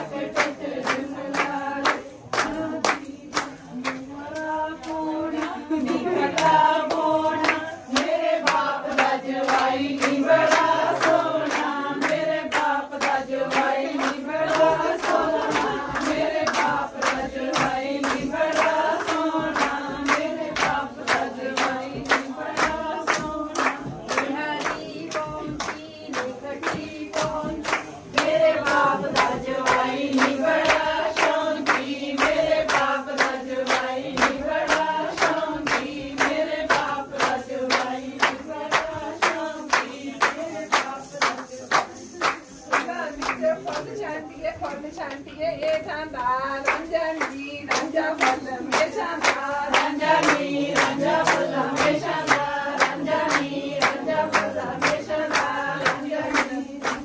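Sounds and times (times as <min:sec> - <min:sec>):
claps or hand-drum strokes: 0:00.0 - 0:57.0
group singing in unison: 0:00.0 - 0:57.0.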